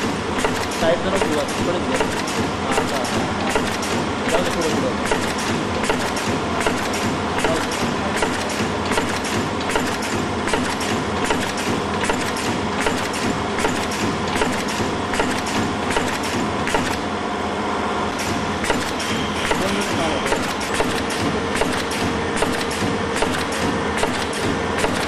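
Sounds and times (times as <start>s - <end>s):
packing machine clattering: 0.0s - 17.1s, 18.2s - 25.0s.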